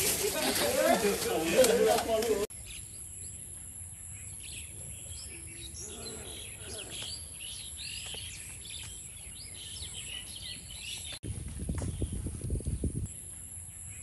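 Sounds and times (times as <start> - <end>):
birds chirping and calling: 0.0 - 11.2.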